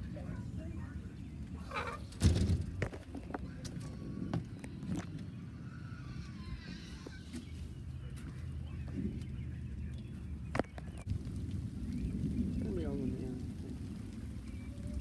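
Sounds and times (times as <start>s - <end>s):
wind and handling rumble: 0.0s - 15.0s.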